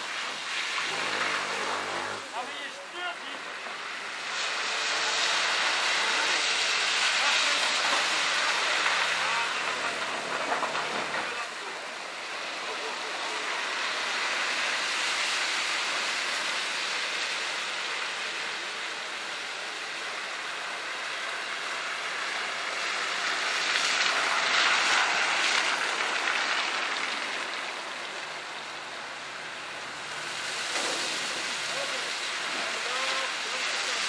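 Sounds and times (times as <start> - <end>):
car tyres swishing through water: 0.0 - 34.0
water spraying: 0.0 - 34.0.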